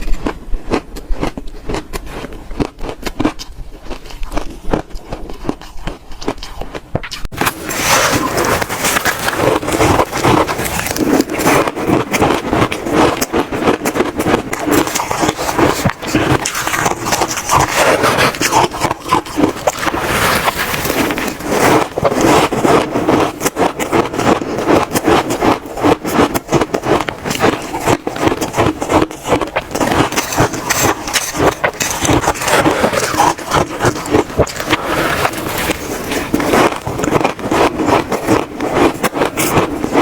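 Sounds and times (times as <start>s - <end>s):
chewing crunchy shaved ice: 0.0s - 40.0s.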